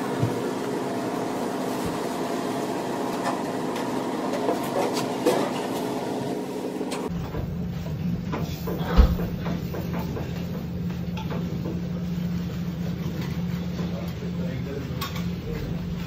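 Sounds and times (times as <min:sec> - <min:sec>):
kitchen machinery humming: 0:00.0 - 0:16.0.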